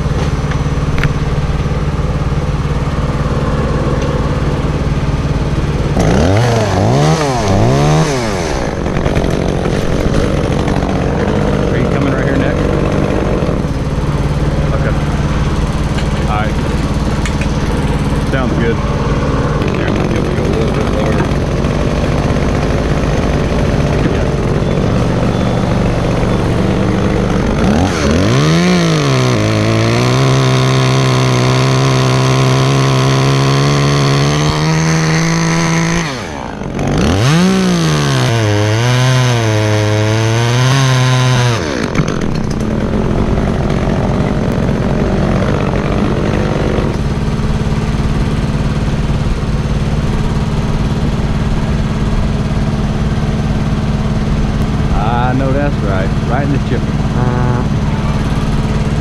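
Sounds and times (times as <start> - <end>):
chainsaw cutting tree limb: 0.0 - 59.0
chainsaw engine drone: 0.0 - 59.0.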